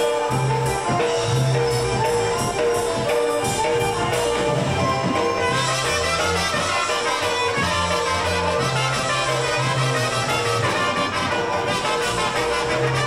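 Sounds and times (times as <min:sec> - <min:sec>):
bass line: 0:00.0 - 0:13.0
polka band brass: 0:00.0 - 0:13.0.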